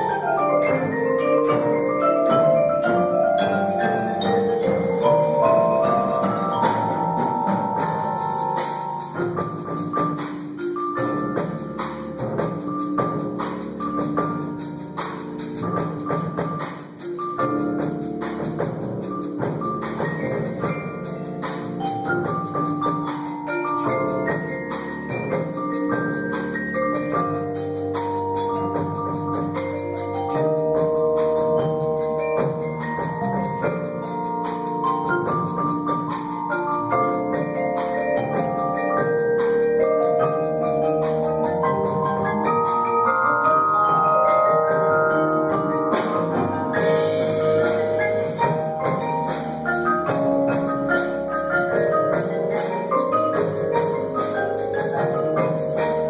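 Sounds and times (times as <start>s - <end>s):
sharp unpitched percussion strikes: 0.0s - 56.0s
tuned mallet instruments: 0.0s - 56.0s.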